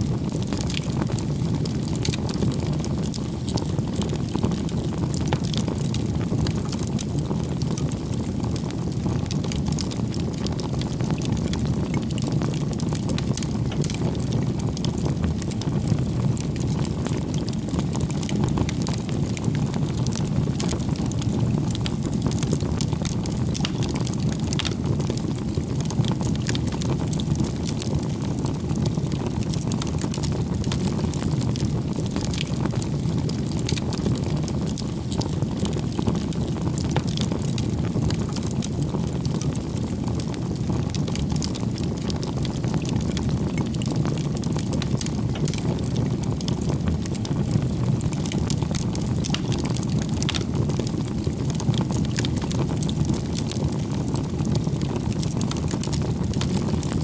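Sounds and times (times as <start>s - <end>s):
bonfire flames rushing: 0.0s - 57.0s
burning wood crackling: 0.0s - 57.0s.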